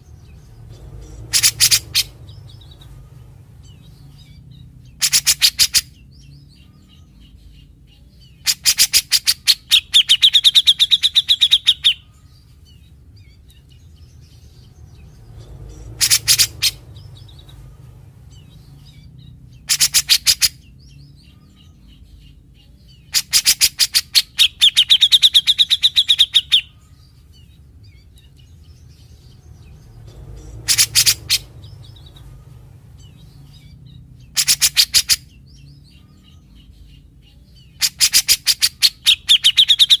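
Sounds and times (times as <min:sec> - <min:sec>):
bird harsh chattering calls: 0:00.0 - 0:40.0.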